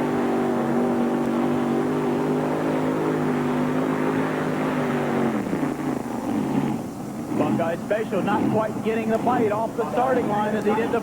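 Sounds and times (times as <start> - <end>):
tractor engine at high revs: 0.0 - 11.0.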